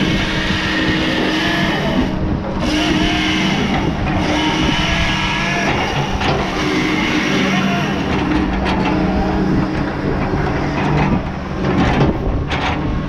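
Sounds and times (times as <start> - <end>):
diesel engine running: 0.0 - 13.0
hydraulic whine: 0.0 - 13.0.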